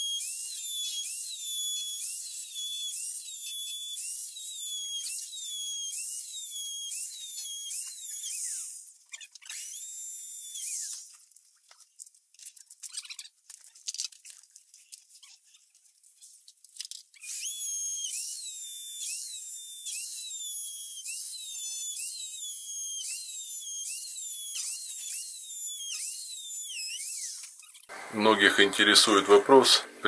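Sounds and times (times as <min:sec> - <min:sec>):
electric drill whining: 0:00.0 - 0:11.3, 0:17.2 - 0:30.0.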